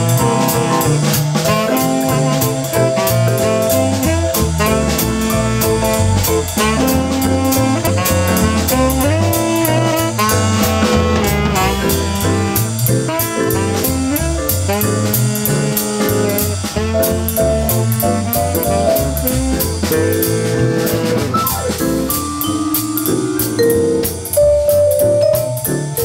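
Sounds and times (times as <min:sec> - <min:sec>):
upbeat jazz with saxophone and brass: 0:00.0 - 0:26.0.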